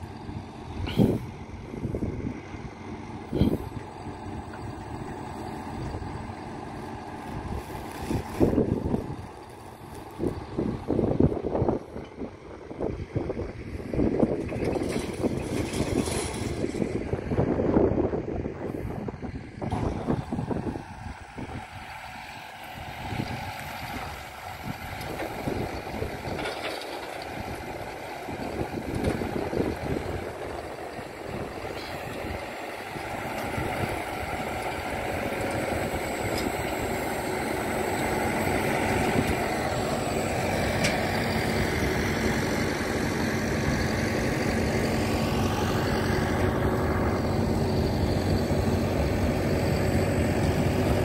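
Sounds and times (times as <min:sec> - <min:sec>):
baler mechanical hum: 0:00.0 - 0:51.0
low rumbling wind on microphone: 0:00.0 - 0:51.0.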